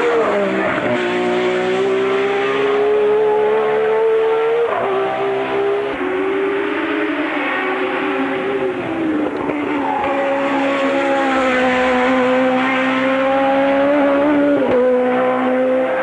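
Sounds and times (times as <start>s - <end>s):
racing car engine at high revs: 0.0s - 16.0s.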